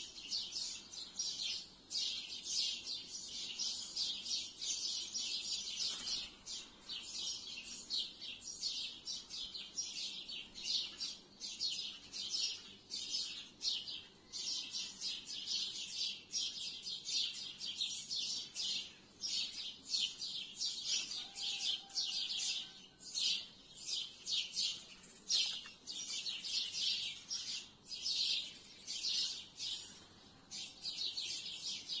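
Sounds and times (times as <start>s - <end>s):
sparrows chirping: 0.0s - 32.0s.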